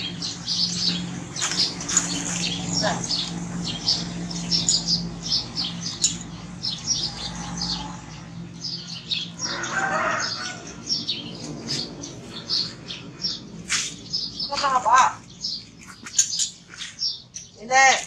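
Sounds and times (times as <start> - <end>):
steady low hum: 0.0 - 17.3
small birds chirping: 0.0 - 18.0.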